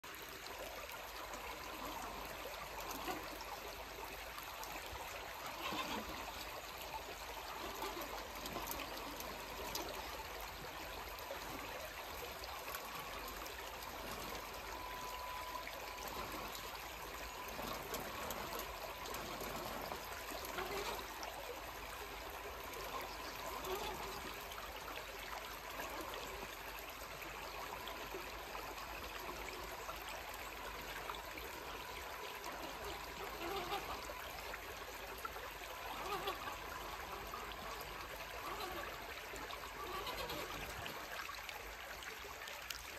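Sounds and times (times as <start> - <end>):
water trickling over rocks: 0.0 - 42.9.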